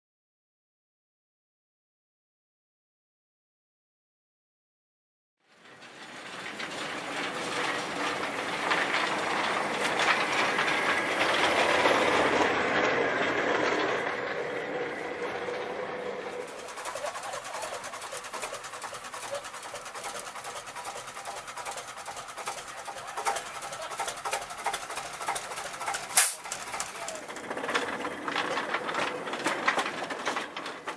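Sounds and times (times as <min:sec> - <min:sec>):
small train clattering: 0:05.4 - 0:30.9
wheel clicks over rail joints: 0:05.4 - 0:30.9.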